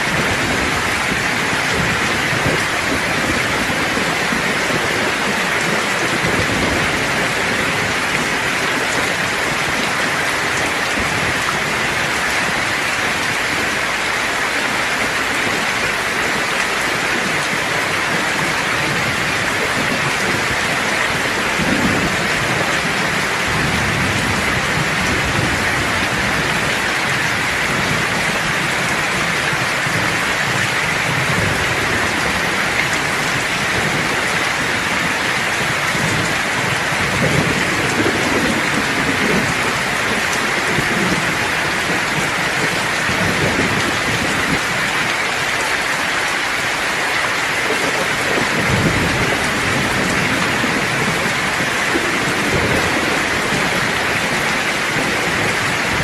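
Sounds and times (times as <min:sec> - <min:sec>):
rolling thunder: 0:00.0 - 0:13.9, 0:15.0 - 0:45.1, 0:47.7 - 0:56.0
heavy rain: 0:00.0 - 0:56.0.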